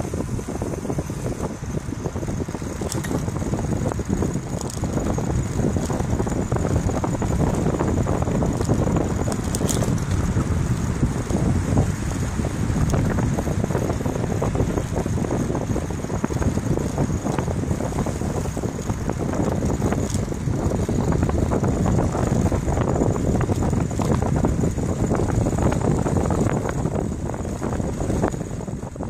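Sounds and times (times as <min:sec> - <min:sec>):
bicycle road noise: 0:00.0 - 0:29.0
wind rush on microphone: 0:00.0 - 0:29.0.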